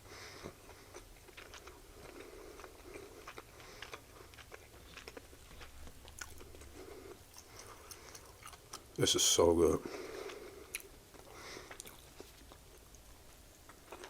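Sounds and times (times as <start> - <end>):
person chewing: 0.2 - 9.0, 9.9 - 14.0.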